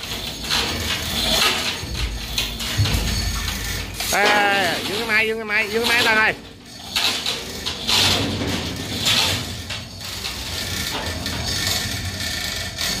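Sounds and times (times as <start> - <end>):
chain hoist chains clattering: 0.0 - 13.0.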